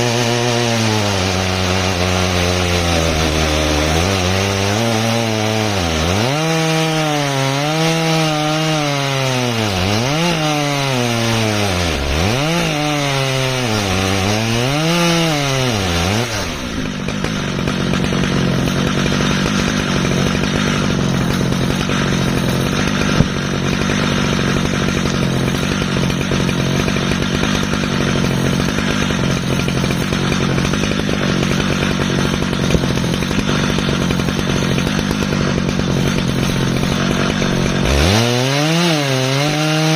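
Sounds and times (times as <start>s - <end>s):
chain rasping through log: 0.0s - 39.9s
chainsaw engine running: 0.0s - 39.9s.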